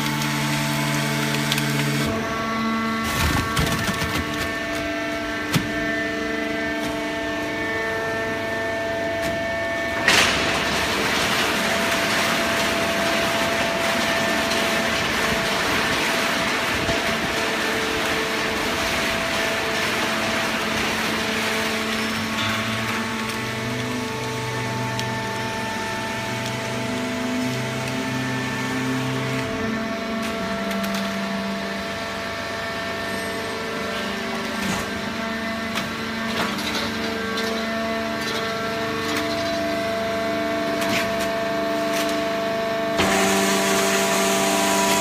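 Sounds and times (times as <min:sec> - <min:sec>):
hydraulic baler machinery humming: 0:00.0 - 0:45.0.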